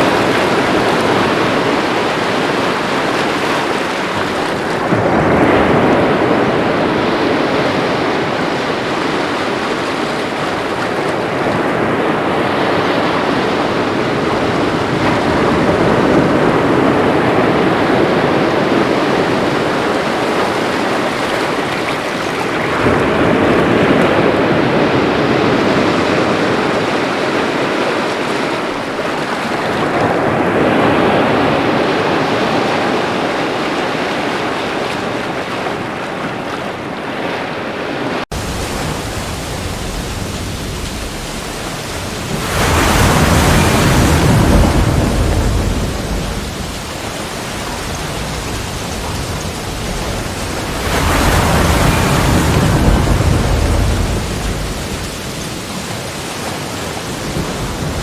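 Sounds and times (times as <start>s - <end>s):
sea waves breaking on rocks: 0.0s - 58.0s.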